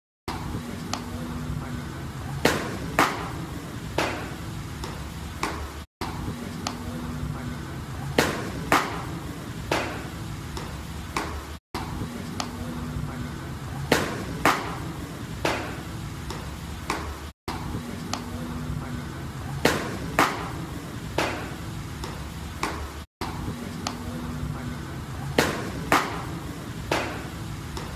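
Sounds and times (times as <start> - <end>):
background noise: 0.3 - 27.9.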